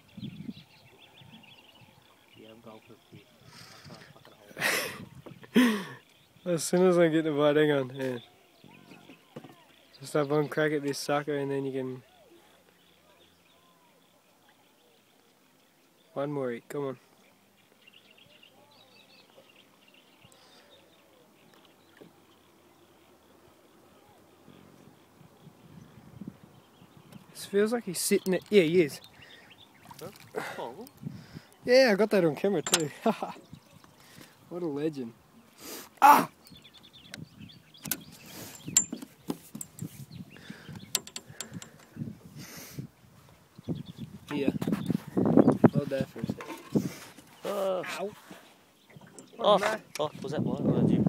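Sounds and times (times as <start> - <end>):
distant bird chirps: 5.2 - 50.4.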